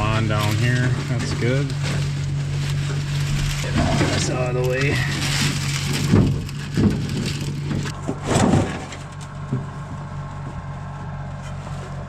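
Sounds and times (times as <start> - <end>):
corn stalks crunching and rustling: 0.0 - 12.0
tractor engine idling: 0.0 - 12.0.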